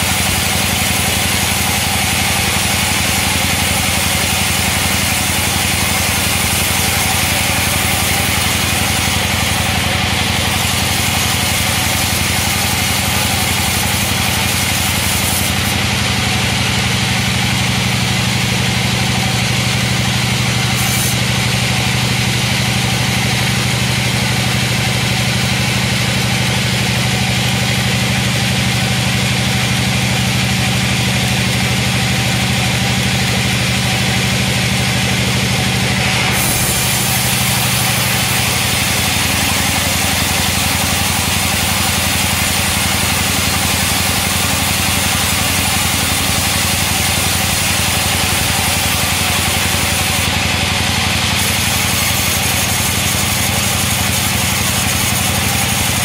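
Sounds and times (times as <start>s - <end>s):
band saw sawing log: 0.0s - 56.0s.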